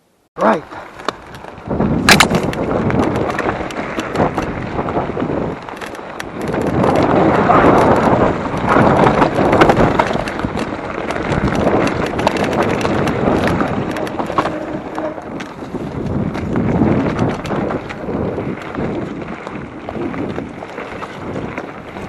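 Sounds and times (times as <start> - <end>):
mountain bike rattling: 0.4 - 22.0
wind on microphone: 1.1 - 22.0.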